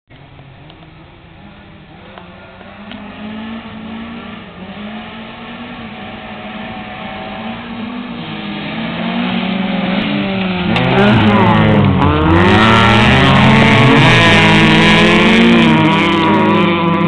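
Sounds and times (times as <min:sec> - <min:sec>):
rally car engines revving: 0:00.2 - 0:17.0.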